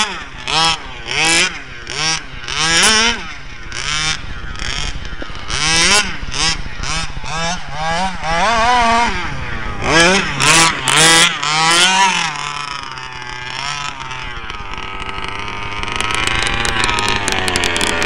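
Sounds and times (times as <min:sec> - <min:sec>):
rc truck engine revving: 0:00.0 - 0:18.0.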